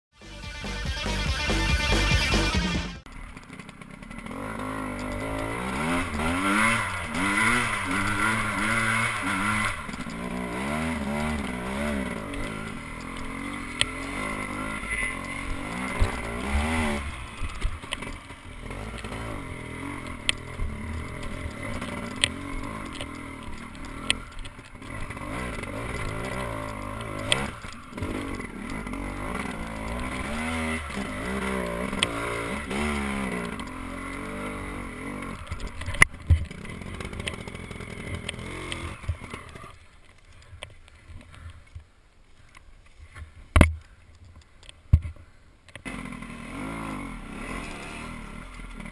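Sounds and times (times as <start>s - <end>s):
dirt bike engine revving: 0.2s - 40.0s, 45.8s - 48.9s.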